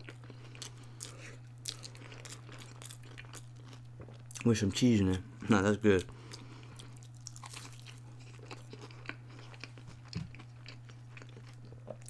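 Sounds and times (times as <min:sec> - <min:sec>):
chewing crispy food: 0:00.0 - 0:04.7, 0:06.0 - 0:12.0.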